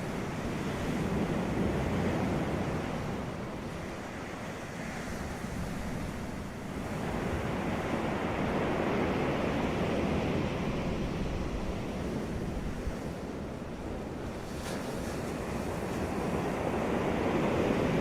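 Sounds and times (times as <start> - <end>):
sea waves washing on beach: 0.0 - 18.0.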